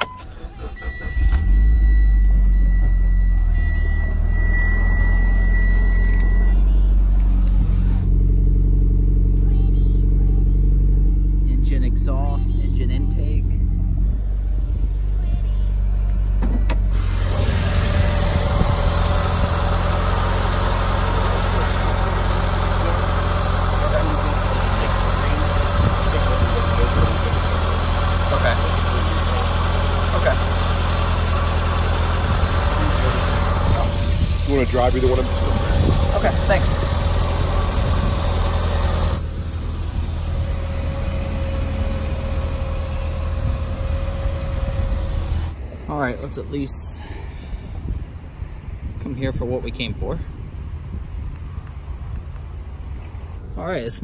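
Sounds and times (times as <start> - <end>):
car engine idling: 0.0 - 48.7.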